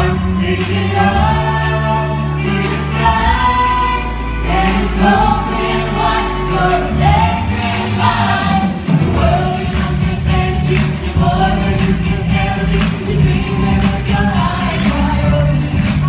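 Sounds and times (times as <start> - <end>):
woman singing over a beat: 0.0 - 16.0.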